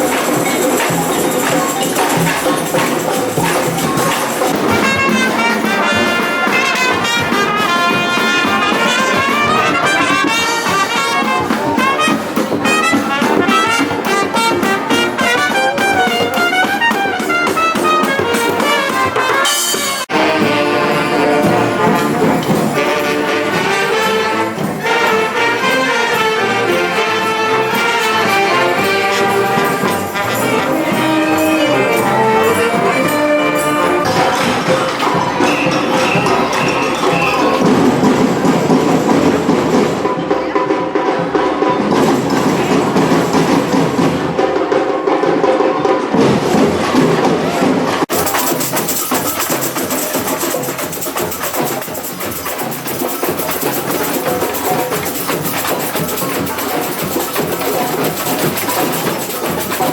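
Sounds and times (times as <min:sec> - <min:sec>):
street brass band playing: 0:00.0 - 0:59.9.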